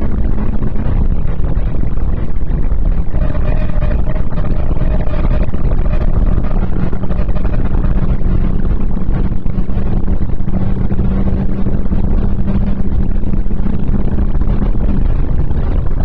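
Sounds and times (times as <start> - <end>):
car engine running steadily: 0.0 - 16.0
road and wind noise: 0.0 - 16.0.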